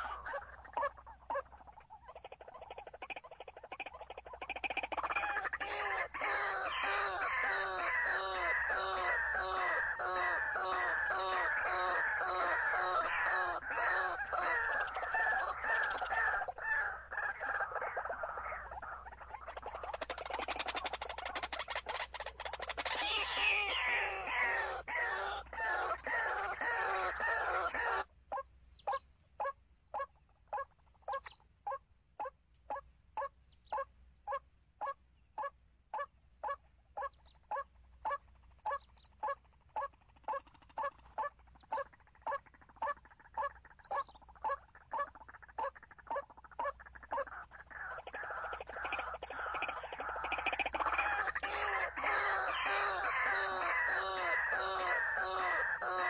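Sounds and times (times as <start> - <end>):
chorus of animal calls: 0.0 - 56.0
repeated short animal call: 2.2 - 56.0.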